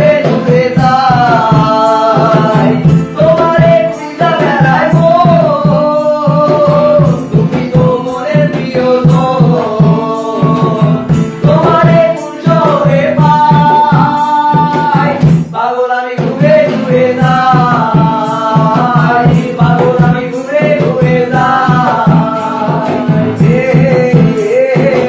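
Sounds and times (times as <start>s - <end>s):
acoustic guitar: 0.0s - 25.0s
hand percussion beat: 0.0s - 25.0s
men singing: 0.0s - 25.0s.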